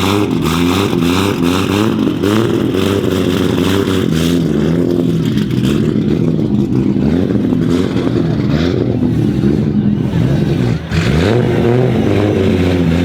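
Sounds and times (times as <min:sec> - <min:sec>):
car engine loud uneven idle: 0:00.0 - 0:13.0.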